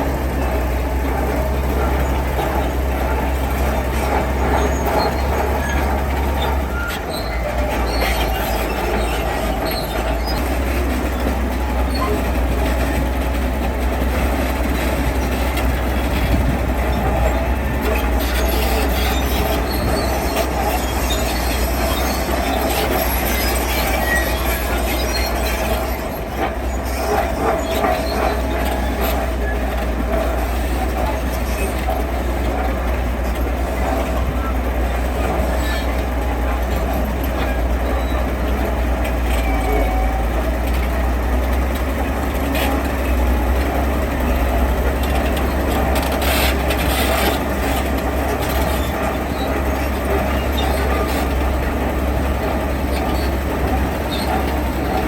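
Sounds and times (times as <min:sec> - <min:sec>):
diesel engine running: 0:00.0 - 0:55.0
metallic squealing and clatter: 0:00.0 - 0:55.0.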